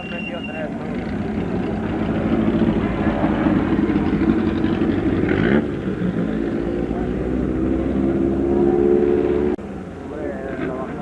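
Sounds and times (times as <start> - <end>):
race car engine running hard: 0.7 - 11.0.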